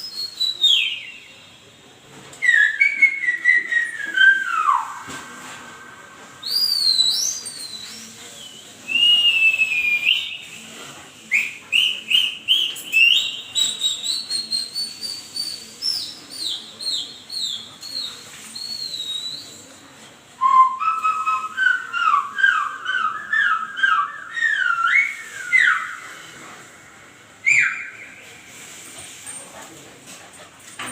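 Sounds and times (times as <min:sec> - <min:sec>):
swooping high whistles: 0:02.4 - 0:19.8, 0:20.4 - 0:28.4.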